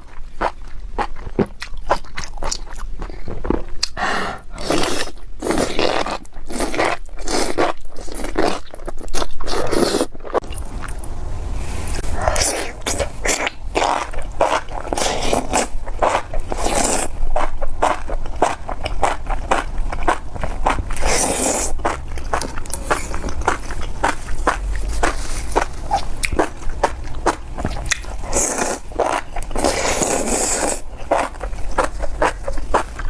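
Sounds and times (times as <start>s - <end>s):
crunchy wet chewing: 0.0s - 11.1s, 12.0s - 33.0s.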